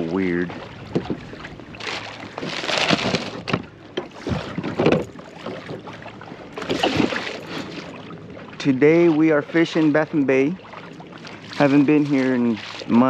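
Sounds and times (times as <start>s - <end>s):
water splashing against kayak hull: 0.0s - 13.0s.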